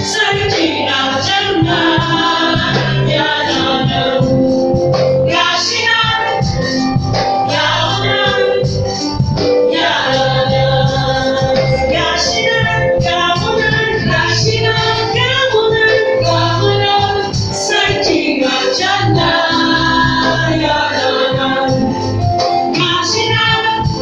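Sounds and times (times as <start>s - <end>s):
church band playing gospel: 0.0s - 24.0s
sustained bass notes: 0.0s - 24.0s
voices singing together: 0.0s - 24.0s.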